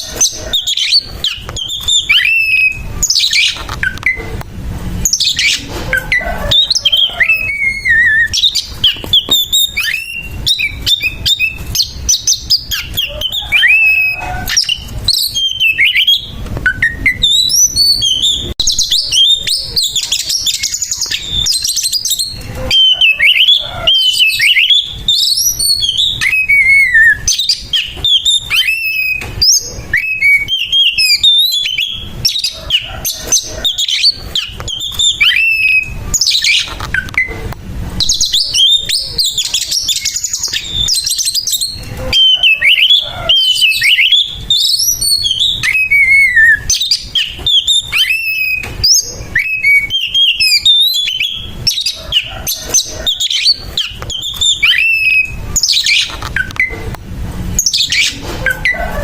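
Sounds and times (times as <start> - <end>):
bird whistling and chattering: 0.0 - 4.4, 5.0 - 56.9, 57.6 - 59.0.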